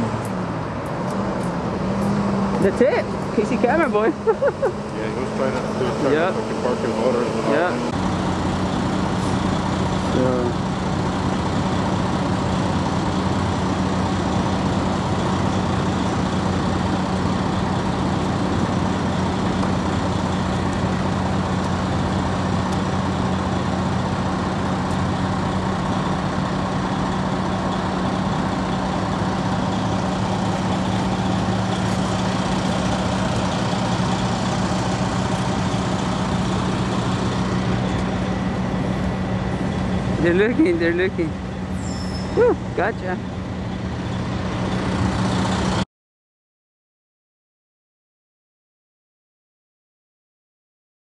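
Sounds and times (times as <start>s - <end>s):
engine idling: 0.0s - 45.8s.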